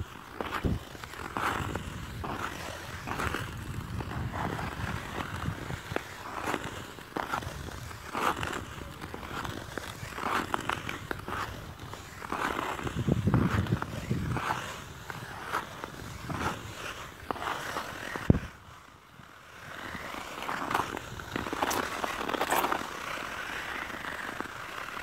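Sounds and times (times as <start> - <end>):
ice skate blades scraping on ice: 0.0 - 25.0.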